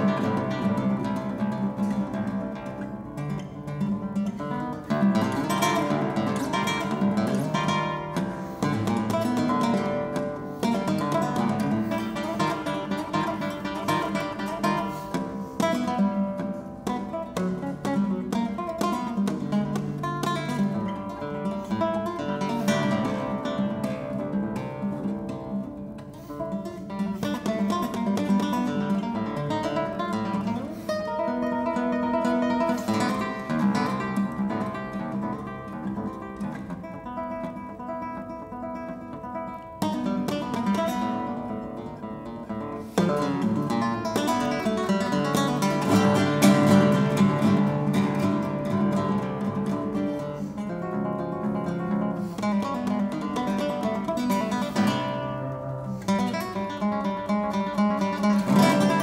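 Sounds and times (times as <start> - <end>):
classical guitar playing: 0.0 - 59.0.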